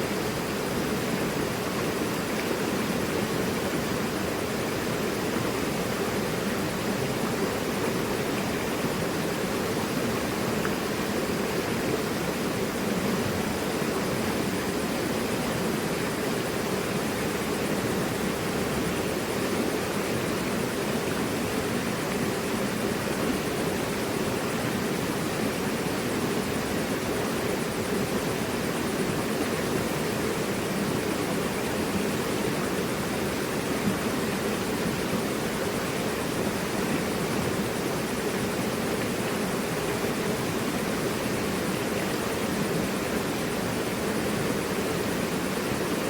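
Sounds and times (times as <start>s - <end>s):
river rushing over rocks: 0.0s - 46.0s.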